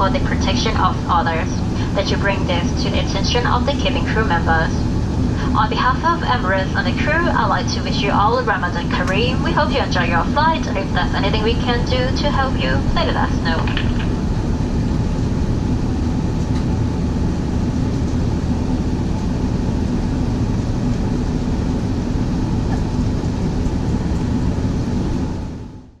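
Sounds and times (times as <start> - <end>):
airplane cabin engine rumble: 0.0 - 26.0
faint hum: 0.0 - 26.0.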